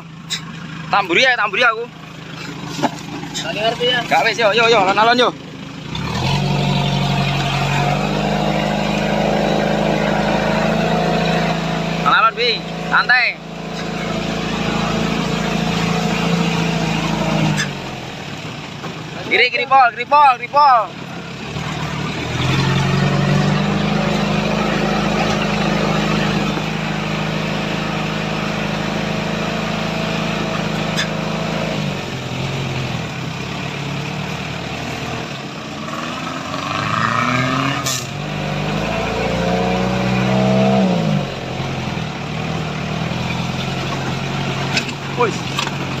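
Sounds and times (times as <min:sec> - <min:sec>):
off-road vehicle engine: 0:00.0 - 0:46.0.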